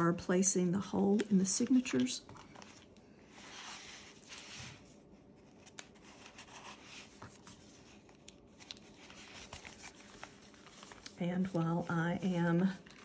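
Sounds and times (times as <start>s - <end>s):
paper pages rustling: 1.1s - 13.0s.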